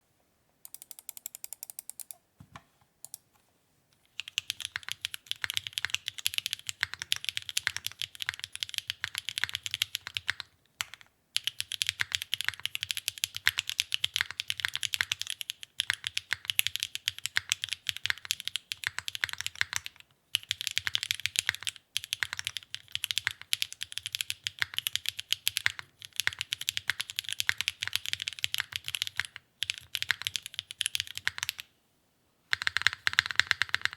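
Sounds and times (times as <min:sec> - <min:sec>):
mechanical keyboard typing: 0:00.6 - 0:02.2, 0:04.1 - 0:31.7, 0:32.5 - 0:33.9.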